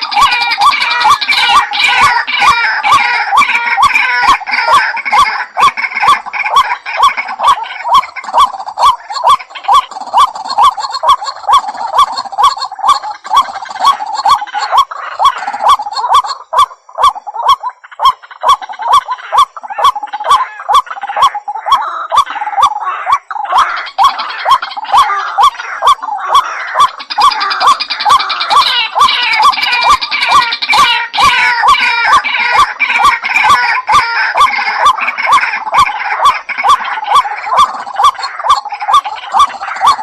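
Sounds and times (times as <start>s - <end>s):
chattering bird calls: 0.0s - 40.0s
waterhen calling: 0.0s - 40.0s.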